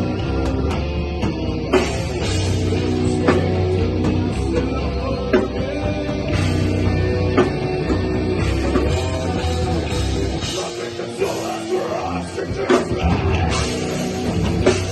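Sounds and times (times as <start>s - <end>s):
rock band playing live: 0.0s - 14.9s.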